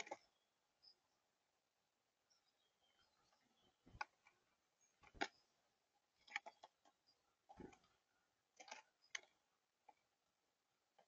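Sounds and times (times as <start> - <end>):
dove pecking seed: 0.0 - 1.0, 2.9 - 11.0.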